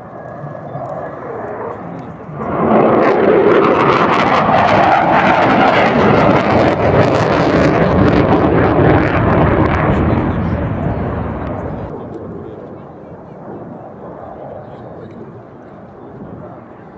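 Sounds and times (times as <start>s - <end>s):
jet engine crackling roar: 0.0s - 16.9s.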